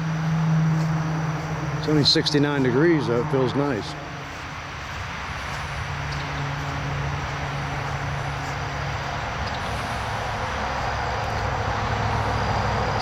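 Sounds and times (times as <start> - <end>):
engine humming: 0.0 - 13.0
outdoor noise: 0.0 - 13.0.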